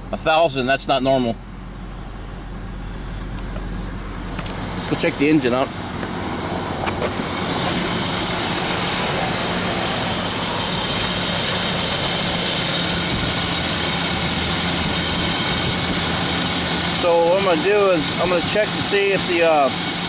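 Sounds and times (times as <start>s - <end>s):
car engine idling roughly: 0.0s - 20.0s.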